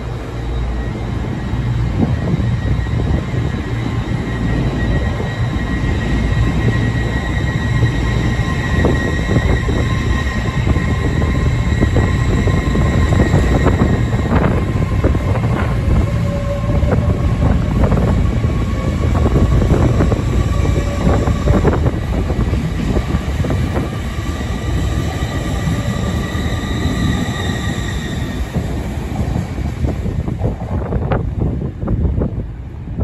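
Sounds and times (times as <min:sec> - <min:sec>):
train wheels rumbling on rail: 0:00.0 - 0:33.0
high-pitched whining tones: 0:00.1 - 0:29.3.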